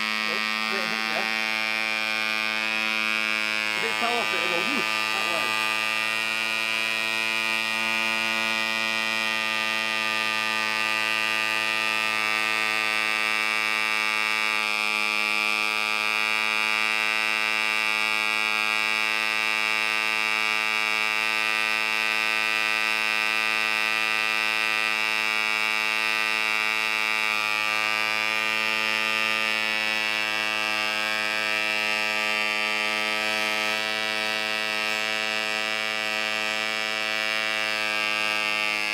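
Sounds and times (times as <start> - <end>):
tiny engine high-pitched buzz: 0.0 - 38.9.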